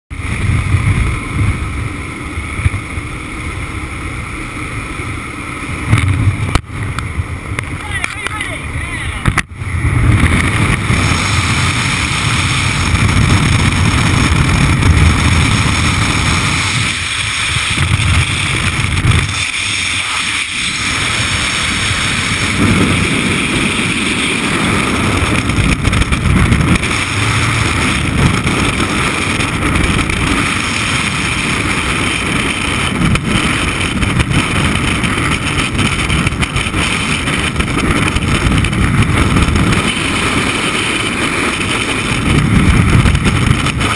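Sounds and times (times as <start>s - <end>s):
freefall wind buffeting microphone: 0.1s - 43.9s.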